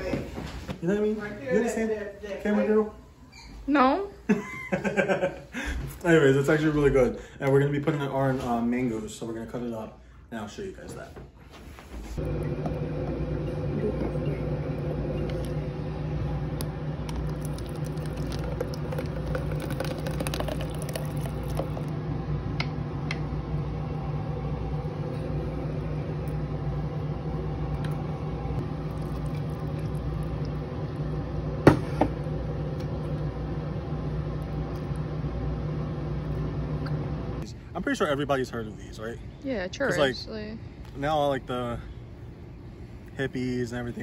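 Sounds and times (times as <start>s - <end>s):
steady low hum: 8.7s - 44.0s.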